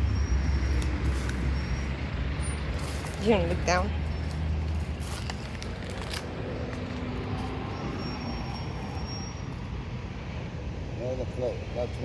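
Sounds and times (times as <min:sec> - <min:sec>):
cars passing on street: 0:00.0 - 0:12.0.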